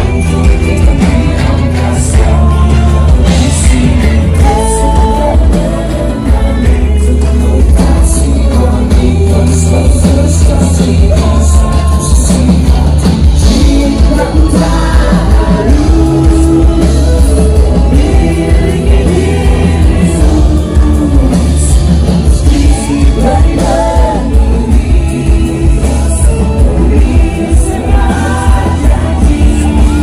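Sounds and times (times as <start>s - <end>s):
rock band playing: 0.0s - 30.0s
vocalist singing: 0.0s - 30.0s.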